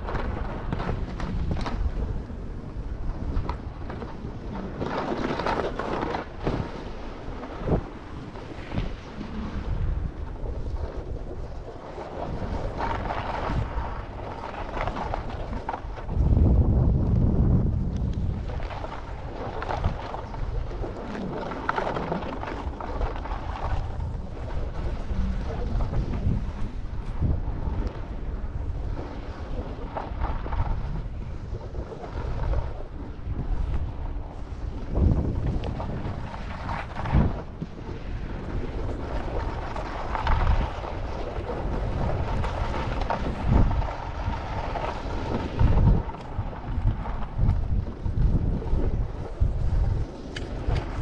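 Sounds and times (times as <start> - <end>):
skis scraping over snow: 0.0 - 51.0
wind buffeting microphone: 0.0 - 51.0.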